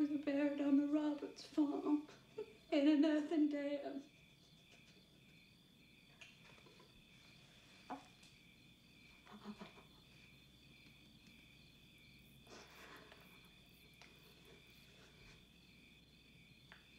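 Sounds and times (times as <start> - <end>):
crickets chirping: 0.0 - 16.9.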